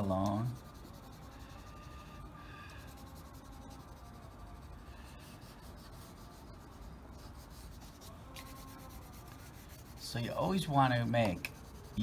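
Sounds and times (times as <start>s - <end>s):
crayon rubbing on paper: 0.0s - 2.0s, 2.7s - 12.0s.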